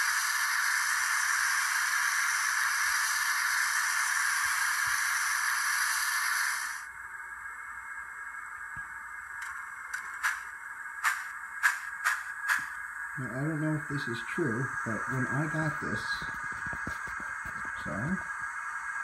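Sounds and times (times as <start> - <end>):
steam hiss from speaker: 0.0 - 6.9, 10.0 - 19.0.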